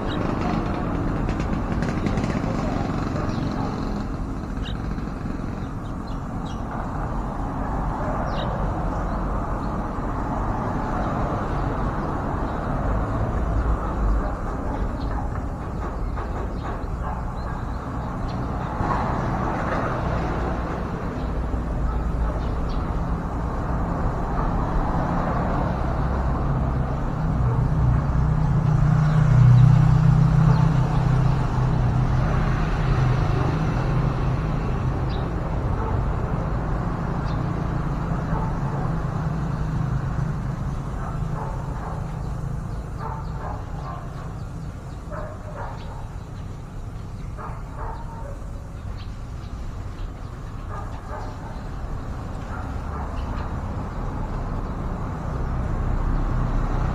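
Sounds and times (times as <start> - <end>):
motor vehicle engine rumble: 0.0 - 56.9.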